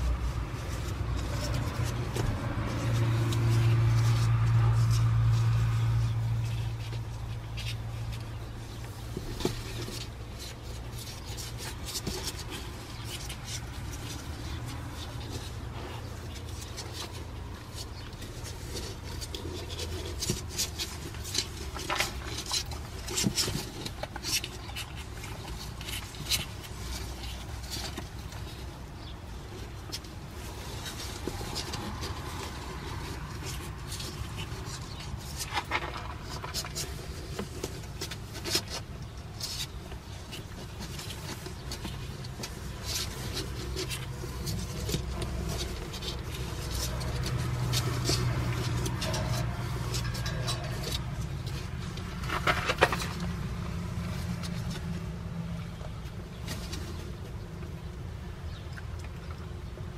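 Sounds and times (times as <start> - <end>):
puppies scrabbling on cardboard: 0.0 - 59.9.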